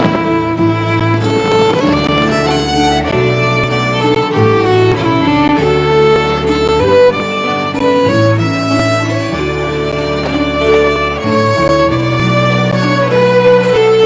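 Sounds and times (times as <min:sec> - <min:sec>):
violin melody: 0:00.0 - 0:14.0.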